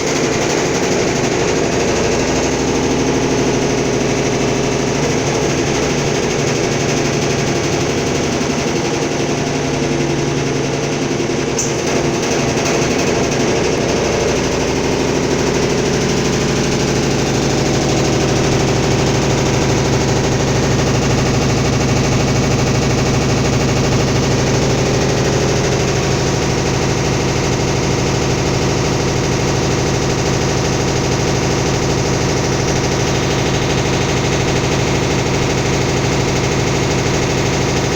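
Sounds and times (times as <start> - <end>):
washing machine humming and rattling: 0.0 - 37.9.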